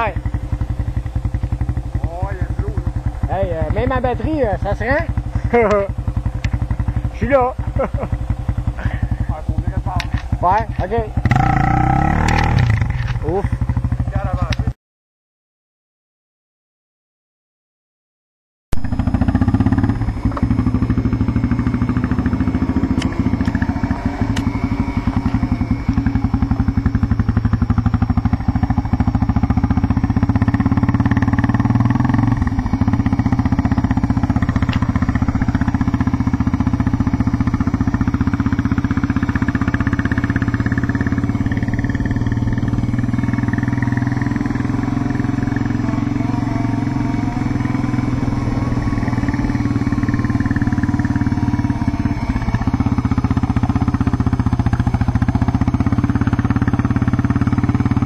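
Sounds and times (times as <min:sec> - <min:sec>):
quad engine running: 0:00.0 - 0:14.8, 0:18.7 - 0:58.0.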